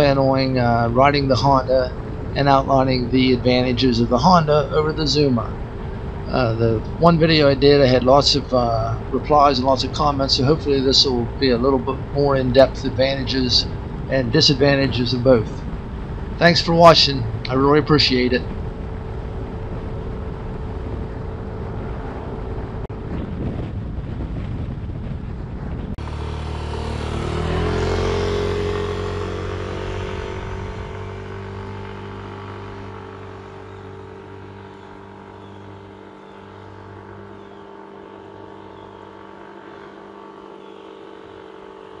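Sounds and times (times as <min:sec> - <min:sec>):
scooter engine: 0:00.0 - 0:24.2, 0:26.0 - 0:42.0
wind buffeting: 0:00.0 - 0:40.5.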